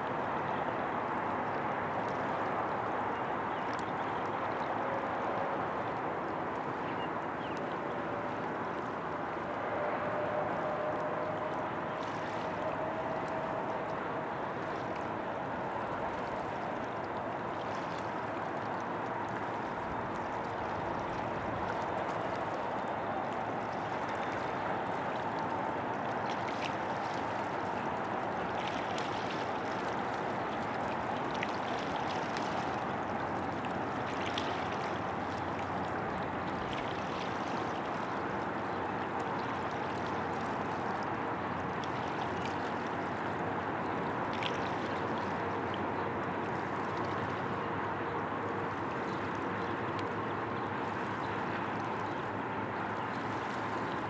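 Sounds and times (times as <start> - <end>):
faint splashes: 0.0 - 54.0
river water flowing: 0.0 - 54.0.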